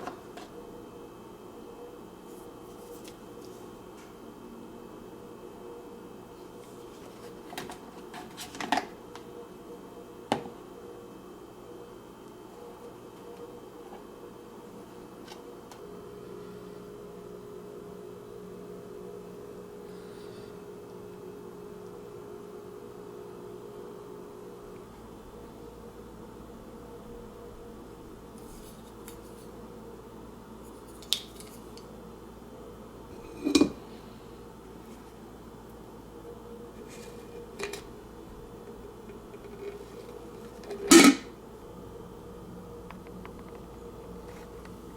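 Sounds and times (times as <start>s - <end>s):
faint hum: 0.0s - 44.9s.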